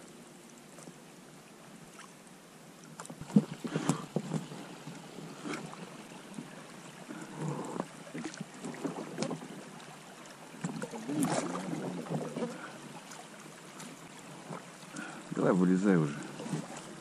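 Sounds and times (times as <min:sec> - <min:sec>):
wading through shallow water: 0:00.0 - 0:17.0.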